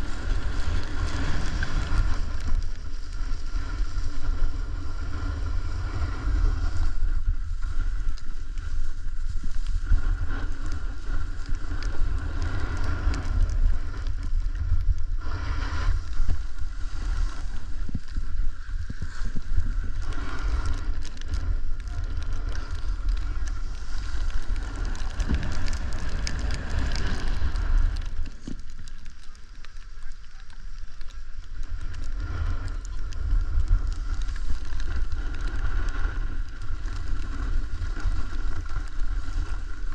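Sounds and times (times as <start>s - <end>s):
snowboard scraping on snow: 0.0s - 28.8s, 32.1s - 39.9s
wind rumbling on microphone: 0.0s - 39.9s.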